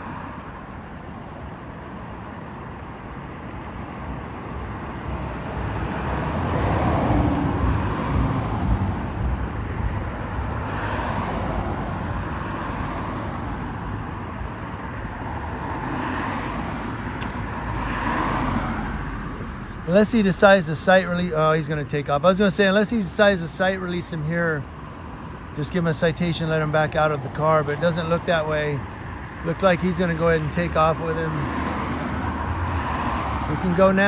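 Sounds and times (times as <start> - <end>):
cars passing: 0.0 - 34.0
steady low traffic rumble: 0.0 - 34.0.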